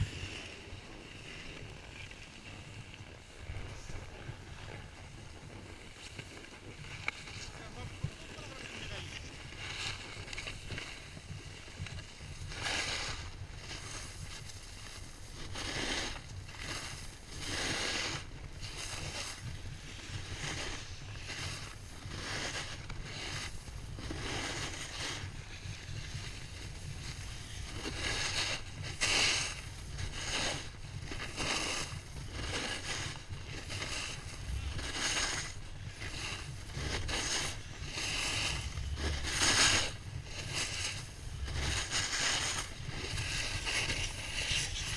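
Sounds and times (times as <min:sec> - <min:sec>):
wind buffeting microphone: 0:00.0 - 0:15.6, 0:23.0 - 0:44.9
snowboard scraping on snow: 0:00.0 - 0:44.9.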